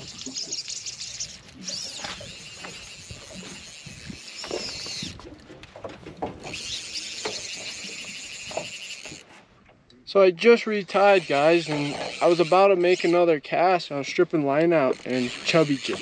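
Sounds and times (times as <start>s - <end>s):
fishing reel drag buzzing: 0.0s - 5.4s, 6.4s - 9.3s, 10.4s - 16.0s.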